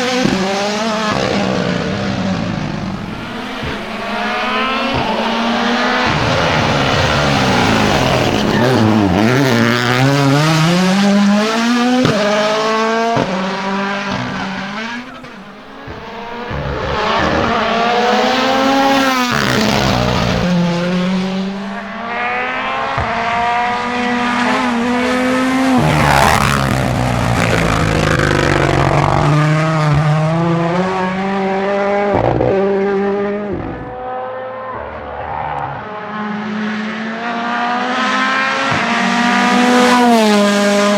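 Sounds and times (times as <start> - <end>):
car engine at full throttle: 0.0 - 40.9.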